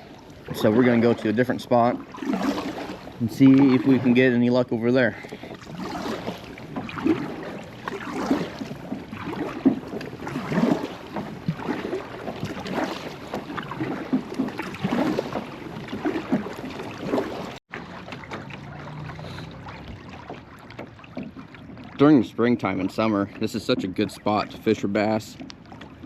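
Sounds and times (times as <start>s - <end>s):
paddle splashing in water: 0.0s - 26.0s.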